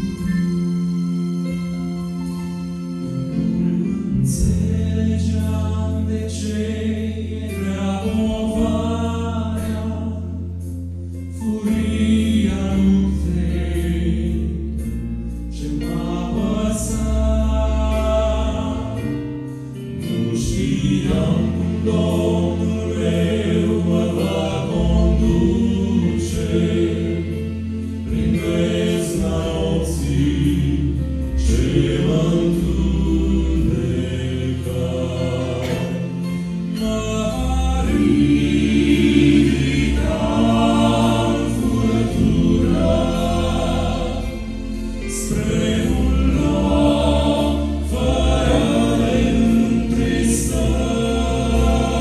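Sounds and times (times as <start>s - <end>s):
low bass line: 0.0s - 52.0s
men singing in harmony: 4.3s - 10.6s, 11.3s - 14.8s, 15.5s - 19.3s, 19.9s - 52.0s.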